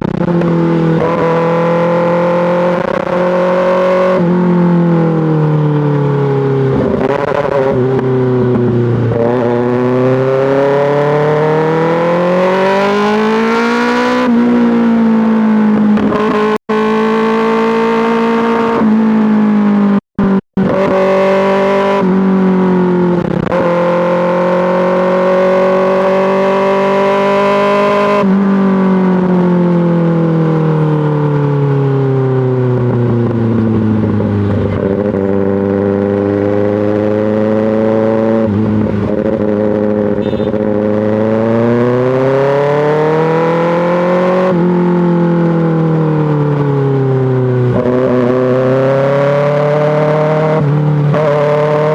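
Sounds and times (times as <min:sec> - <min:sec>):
motorcycle exhaust revving: 0:00.0 - 0:51.9.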